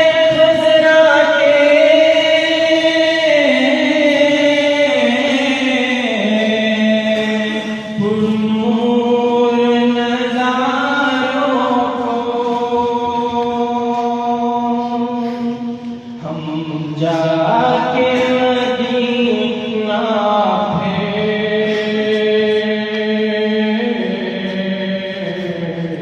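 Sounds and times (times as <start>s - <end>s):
hummed vocal backing: 0.0s - 26.0s.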